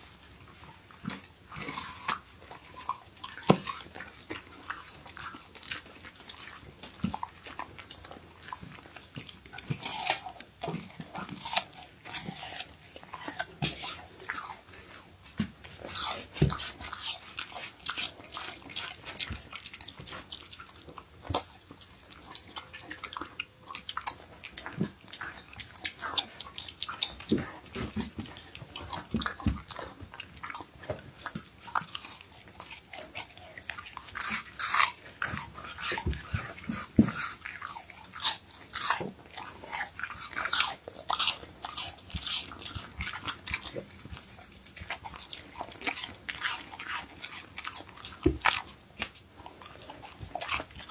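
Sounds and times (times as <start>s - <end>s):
dog crunching apple: 0.0s - 50.9s
wet chewing: 0.0s - 50.9s.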